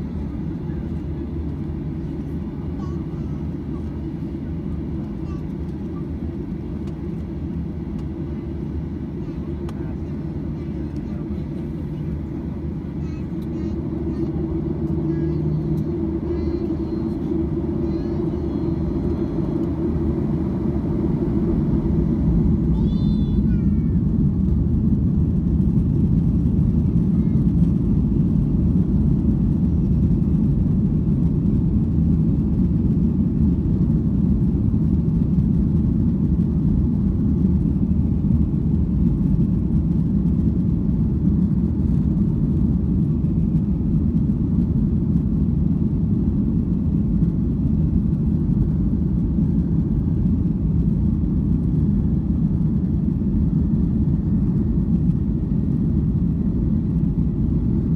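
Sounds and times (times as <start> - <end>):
jet engine rumble in cabin: 0.0 - 57.9.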